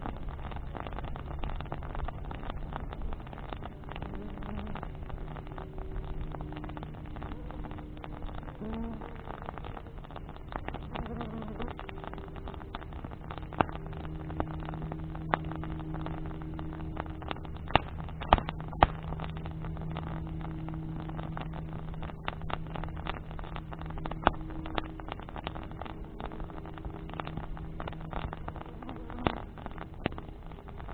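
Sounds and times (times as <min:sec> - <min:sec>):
bonfire crackling and popping: 0:00.0 - 0:30.9
low engine drone: 0:00.0 - 0:30.9.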